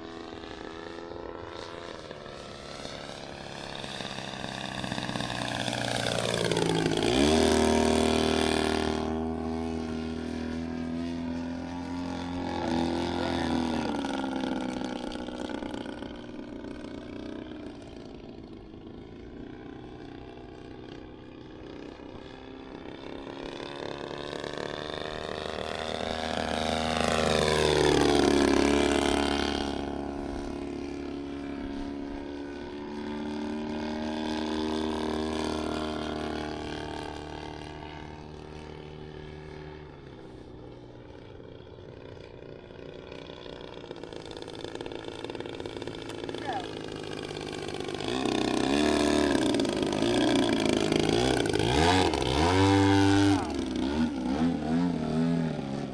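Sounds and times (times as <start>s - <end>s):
model plane engine passing: 0.0s - 55.9s.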